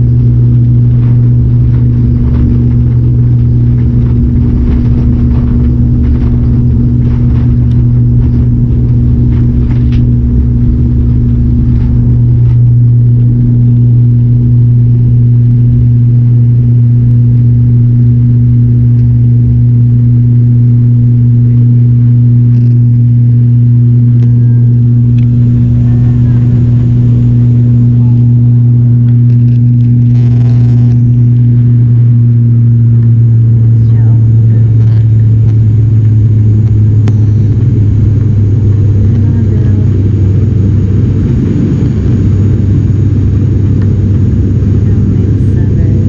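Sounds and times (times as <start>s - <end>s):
turboprop engines droning: 0.0s - 46.0s.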